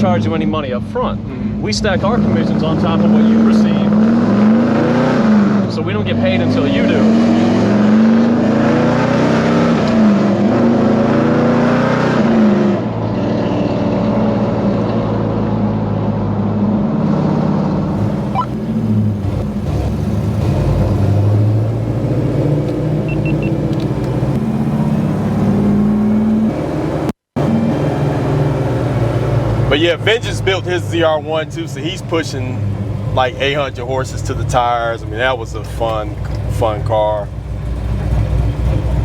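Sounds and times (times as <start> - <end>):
car engine accelerating: 1.8 - 39.0.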